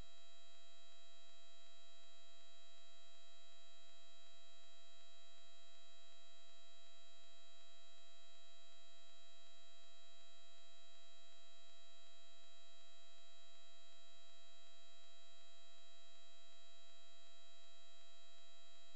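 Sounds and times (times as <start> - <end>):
electrical hum with high whine: 0.0 - 18.9.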